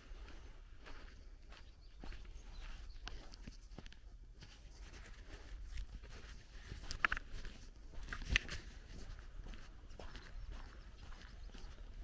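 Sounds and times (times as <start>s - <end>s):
footsteps on dirt road: 0.0s - 12.0s.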